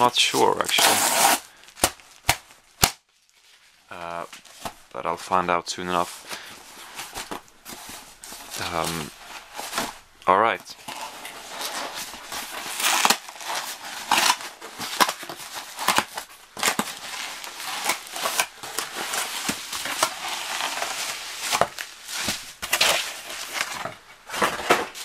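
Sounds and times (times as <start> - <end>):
bubble wrap crinkling: 0.0 - 5.0, 6.0 - 25.0.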